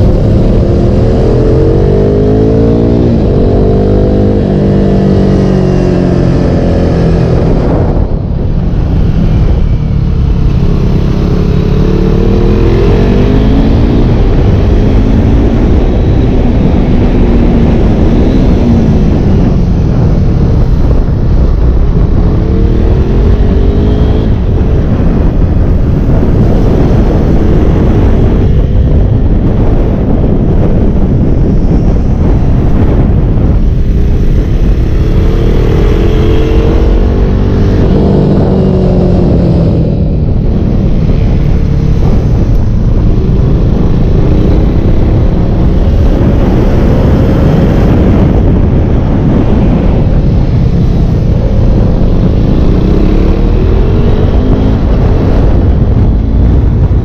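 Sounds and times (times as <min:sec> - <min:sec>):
motorcycle engine rising and falling: 0:00.0 - 0:57.0
wind rushing on microphone: 0:00.0 - 0:57.0.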